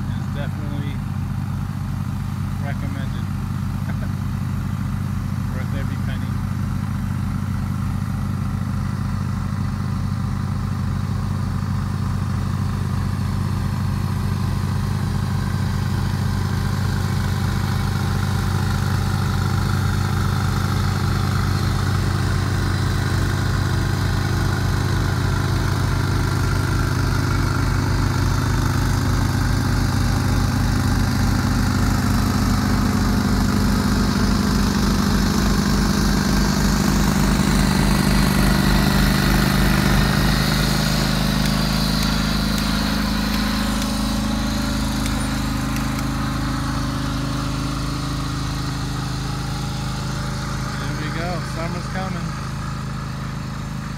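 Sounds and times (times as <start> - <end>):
lawn tractor engine pulsing drone: 0.0 - 53.9.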